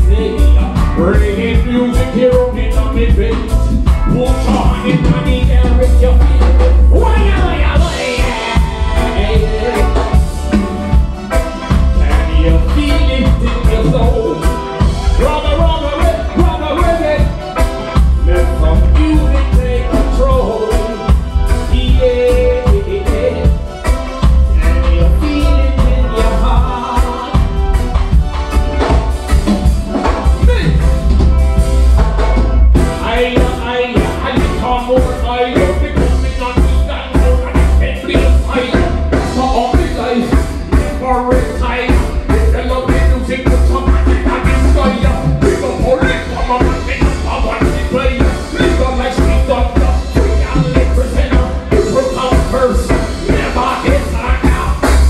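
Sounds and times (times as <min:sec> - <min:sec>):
man singing: 0:00.0 - 0:28.1, 0:29.9 - 0:31.2, 0:32.8 - 0:55.0
drum kit beat: 0:00.0 - 0:55.0
heavy bass line: 0:00.0 - 0:55.0
reggae band playing: 0:00.0 - 0:55.0.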